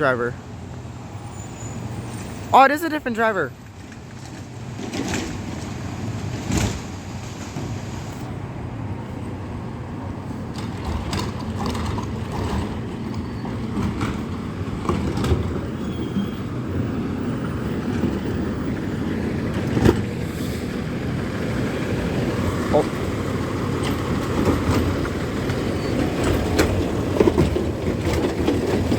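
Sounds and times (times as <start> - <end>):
garbage truck running: 0.0 - 28.9.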